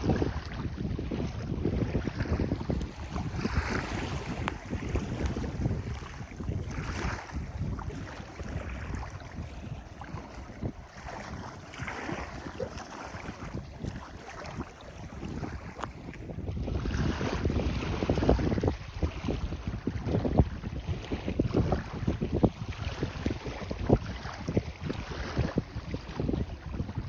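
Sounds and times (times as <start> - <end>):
sea water washing: 0.0 - 27.0
wind buffeting microphone: 0.0 - 27.0.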